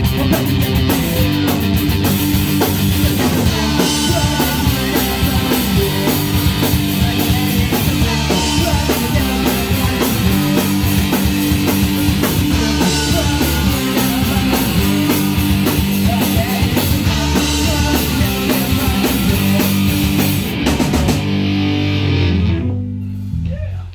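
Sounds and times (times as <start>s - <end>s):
punk rock band playing: 0.0s - 23.9s.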